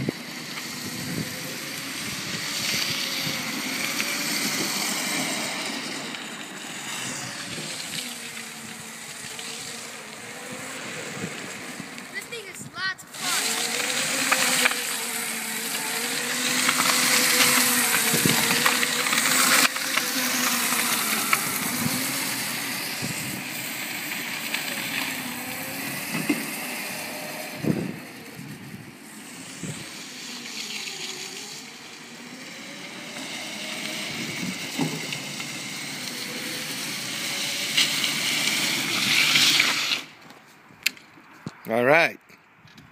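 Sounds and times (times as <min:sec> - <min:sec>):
electric motor whining: 0:00.0 - 0:12.3, 0:13.0 - 0:40.2.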